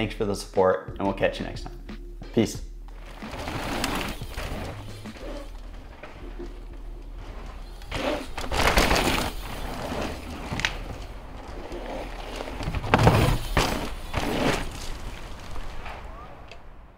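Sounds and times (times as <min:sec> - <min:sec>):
bike tyres skidding on dirt: 0:02.9 - 0:16.9.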